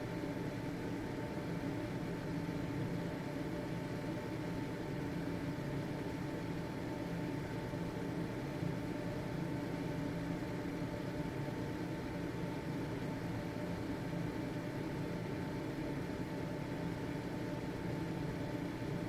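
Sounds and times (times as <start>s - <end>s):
ventilation fan running: 0.0s - 19.0s.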